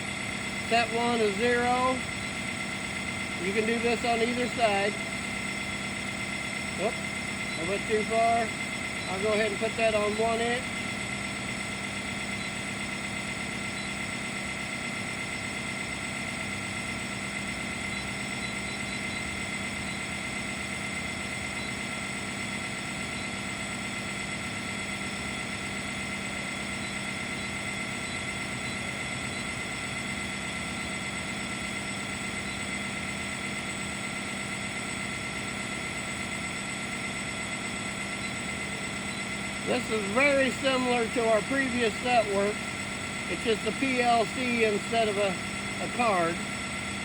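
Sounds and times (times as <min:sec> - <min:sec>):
machine drone: 0:00.0 - 0:47.0.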